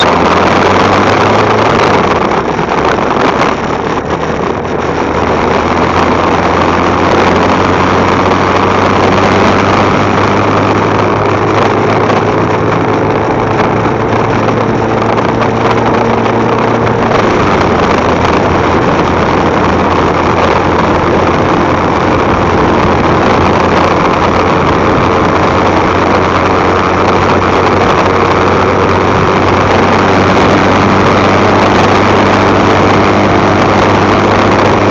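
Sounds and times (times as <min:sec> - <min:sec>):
motorcycle engine running: 0:00.0 - 0:34.9
wind rushing noise: 0:00.0 - 0:34.9.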